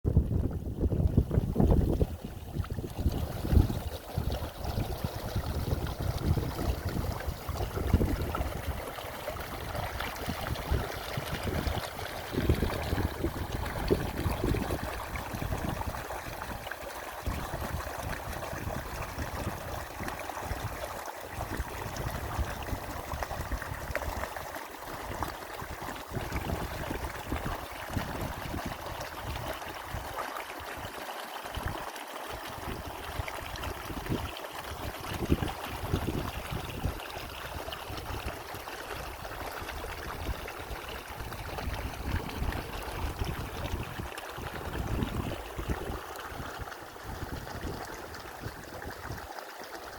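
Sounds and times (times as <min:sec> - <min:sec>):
wind buffeting microphone: 0:00.1 - 0:20.8, 0:21.4 - 0:24.3, 0:25.0 - 0:30.1, 0:32.6 - 0:38.3, 0:39.0 - 0:49.3.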